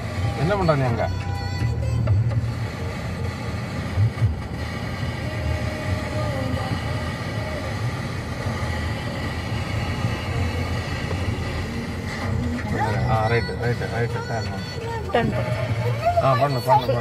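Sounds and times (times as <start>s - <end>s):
car driving rumble inside cabin: 0.0s - 17.0s.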